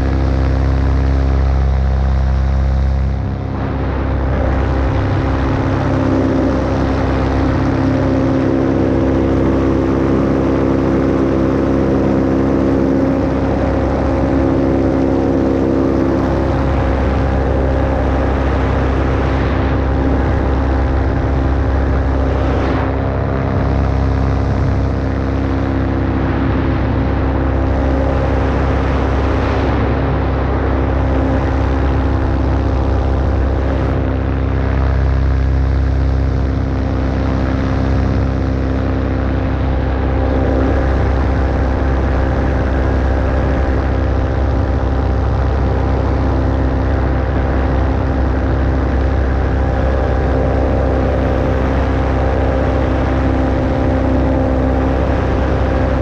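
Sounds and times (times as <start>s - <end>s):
paramotor engine and propeller: 0.0s - 56.0s
wind rushing over microphone: 0.0s - 56.0s.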